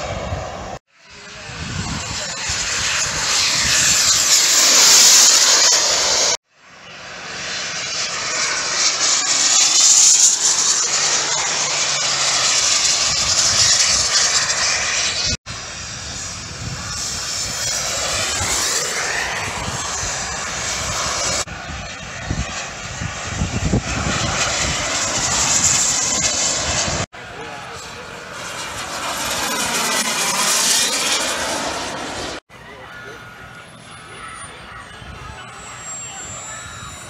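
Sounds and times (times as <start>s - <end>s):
model airplane engines flying past: 0.0s - 37.0s.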